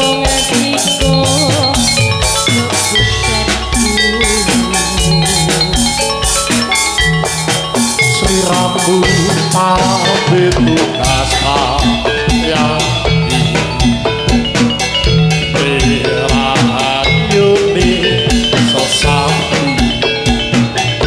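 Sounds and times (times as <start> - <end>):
loud drumming: 0.0 - 21.0
metallophones playing: 0.0 - 21.0.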